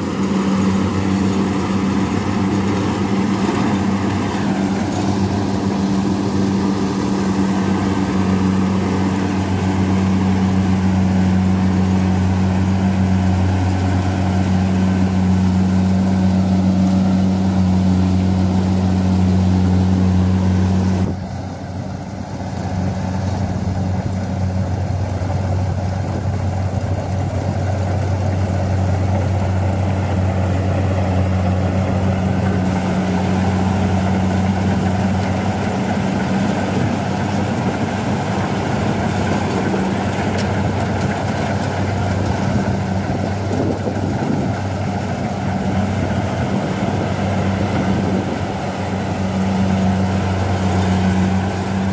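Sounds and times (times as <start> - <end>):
combine harvester engine humming: 0.0 - 51.9.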